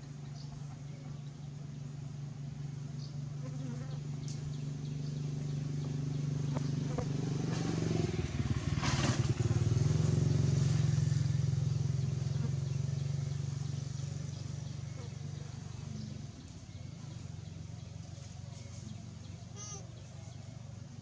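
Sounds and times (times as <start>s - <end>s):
passing motor vehicle engine hum: 0.0s - 21.0s.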